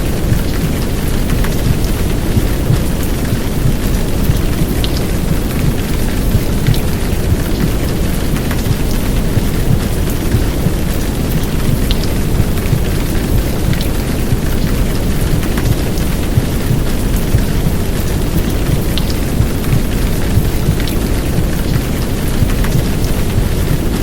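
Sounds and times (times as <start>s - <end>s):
heavy rain: 0.0s - 24.0s
low rumbling white noise: 0.0s - 24.0s.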